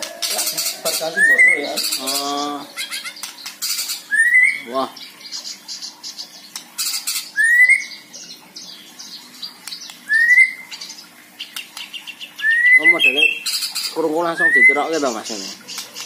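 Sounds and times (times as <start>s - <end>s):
bird chattering and whistling song: 0.0s - 16.0s.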